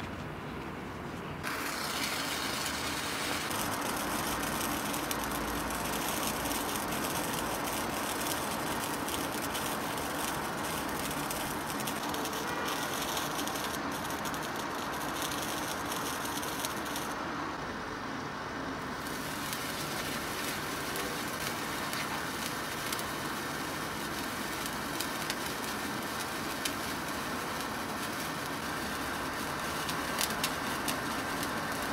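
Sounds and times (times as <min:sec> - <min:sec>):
sparkler fizzing and crackling: 0:01.4 - 0:17.3, 0:18.8 - 0:31.9.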